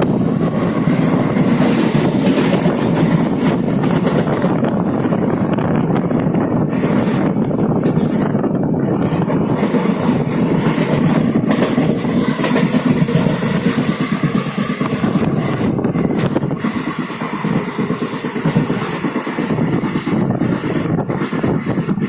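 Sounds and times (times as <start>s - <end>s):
moving vehicle rumble: 0.0s - 22.0s.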